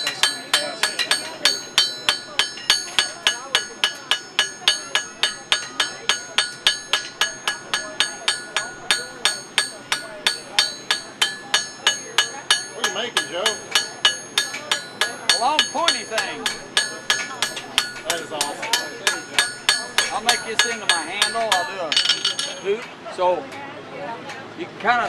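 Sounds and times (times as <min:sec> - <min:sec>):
hammer striking steel on anvil: 0:00.0 - 0:22.9.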